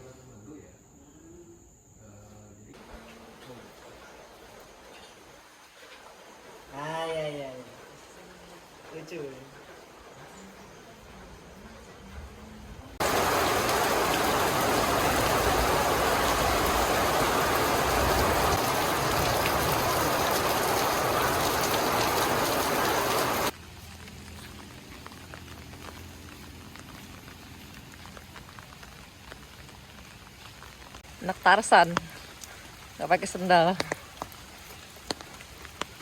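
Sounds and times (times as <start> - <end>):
heavy rain hiss: 2.7 - 36.0
soft rain patter with drips: 2.7 - 36.0.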